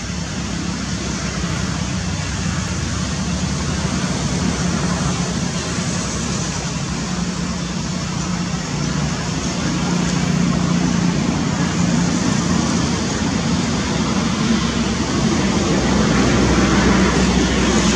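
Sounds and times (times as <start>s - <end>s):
rumbling background noise: 0.0s - 17.9s.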